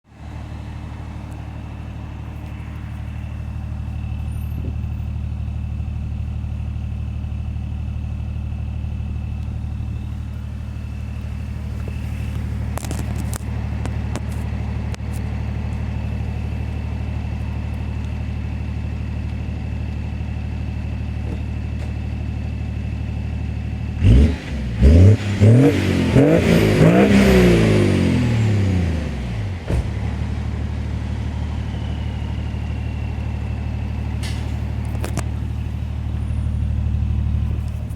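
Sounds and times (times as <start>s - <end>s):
diesel engine idling and revving: 0.0s - 37.9s.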